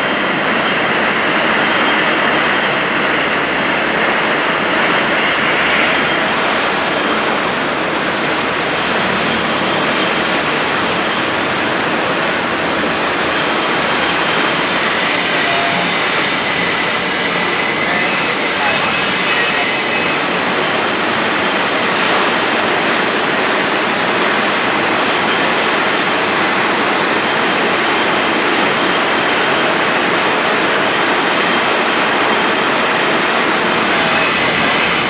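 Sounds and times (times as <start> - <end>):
high-pitched machine whines: 0.0 - 35.0
loud machine noise: 0.0 - 35.0.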